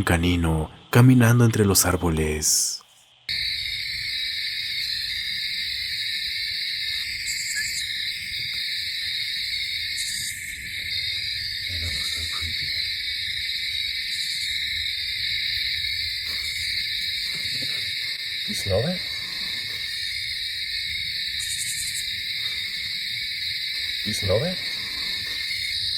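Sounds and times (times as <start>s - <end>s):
owl hooting: 3.3s - 25.9s.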